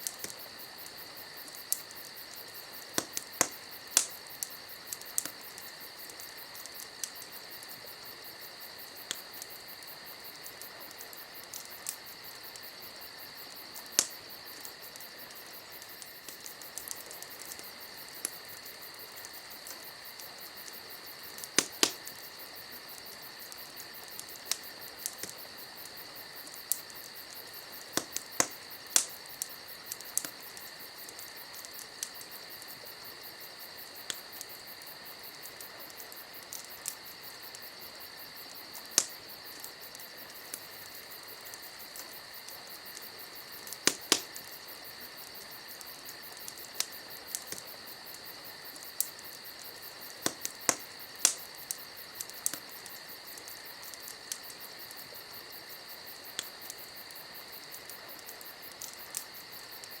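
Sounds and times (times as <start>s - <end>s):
campfire crackling and popping: 0.0s - 60.0s
crickets chirping: 0.0s - 60.0s.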